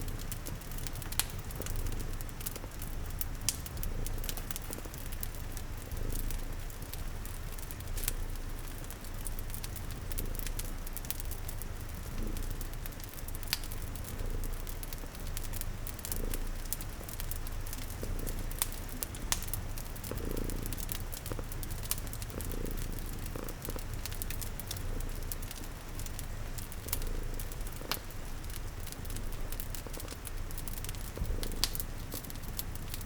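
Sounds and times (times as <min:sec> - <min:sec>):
cat purring: 0:00.0 - 0:33.0
rain hiss: 0:00.0 - 0:33.0
wood fire crackling: 0:00.0 - 0:33.0.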